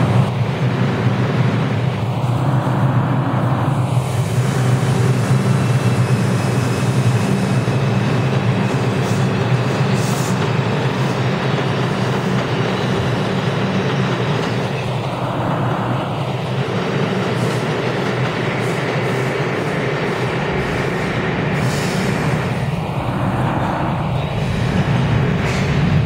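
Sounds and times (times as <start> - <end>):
subway train rumble: 0.0 - 26.0.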